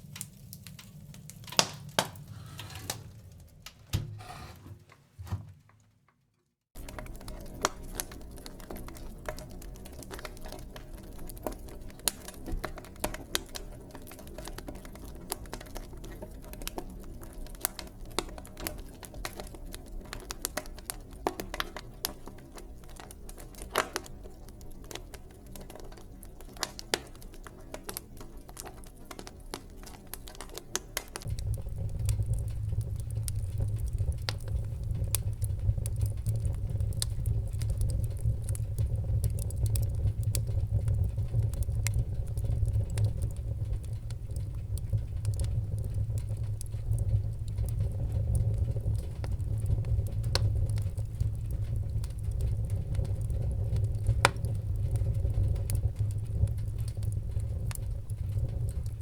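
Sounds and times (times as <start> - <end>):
fire pops and snaps: 0.0 - 4.0, 6.8 - 59.0
low rumble of flames: 0.0 - 4.5, 6.7 - 59.0
wood fire crackling: 0.0 - 5.9, 6.5 - 59.0.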